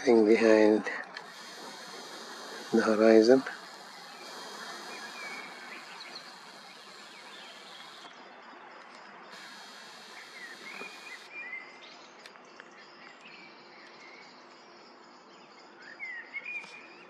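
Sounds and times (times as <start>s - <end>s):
steady background hiss: 0.0s - 16.5s
birds chirping: 0.0s - 17.0s.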